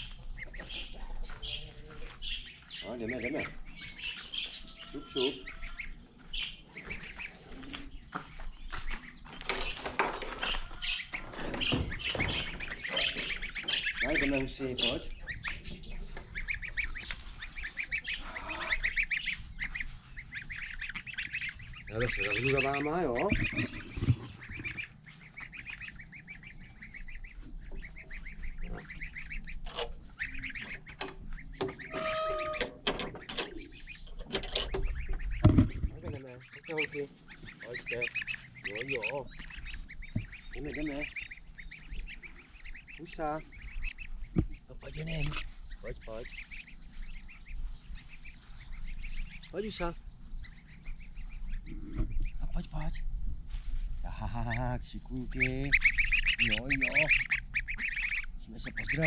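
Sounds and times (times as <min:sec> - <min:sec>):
goslings peeping: 0:00.0 - 0:59.0.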